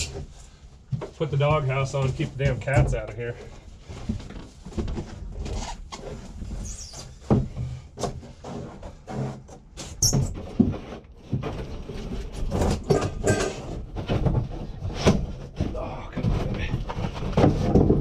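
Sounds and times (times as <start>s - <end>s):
engine cover knocking and scraping: 2.1s - 18.0s.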